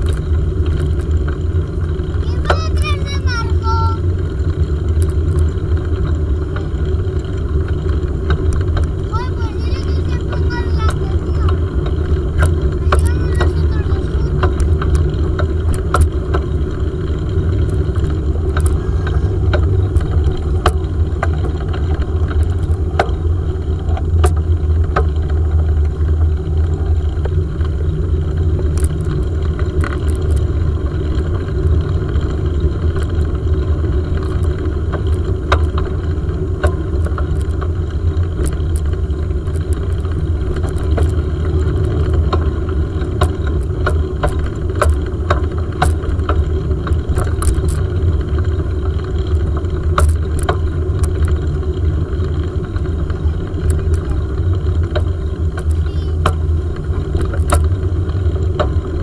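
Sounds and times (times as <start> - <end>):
bicycle tyres rumbling on pavement: 0.0 - 59.0
light clicks and rattles: 0.0 - 59.0.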